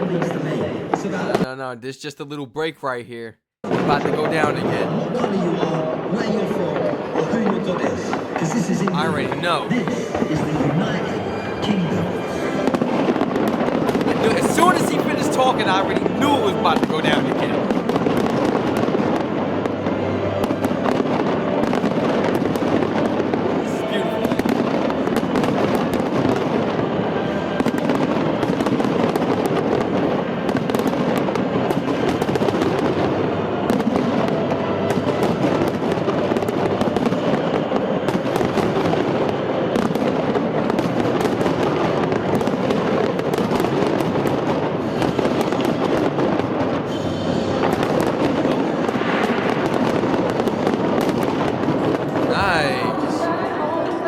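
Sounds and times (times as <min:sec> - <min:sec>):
fireworks bursts and crackles: 0:03.7 - 0:10.6, 0:12.6 - 0:53.3.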